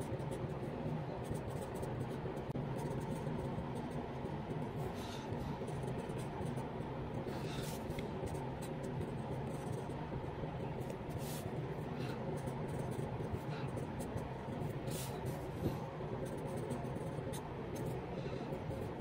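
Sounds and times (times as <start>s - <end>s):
low background hum: 0.0s - 19.0s
pen nib scratching on paper: 0.0s - 19.0s.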